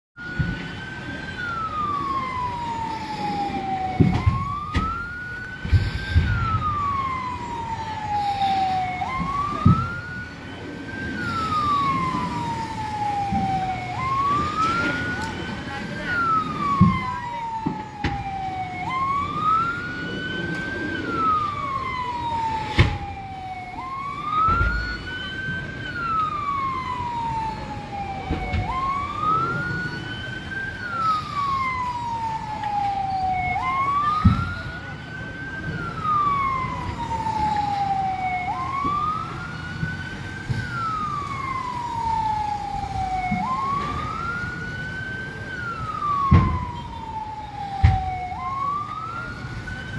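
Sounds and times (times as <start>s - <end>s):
siren wailing: 0.2s - 49.9s.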